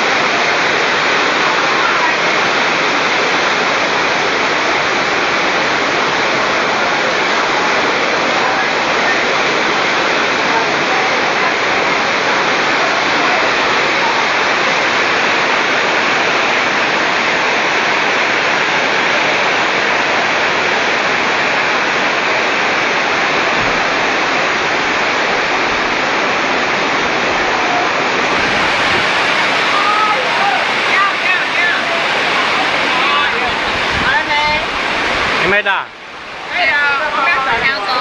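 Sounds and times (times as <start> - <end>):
torrential rain pouring: 0.0 - 38.0.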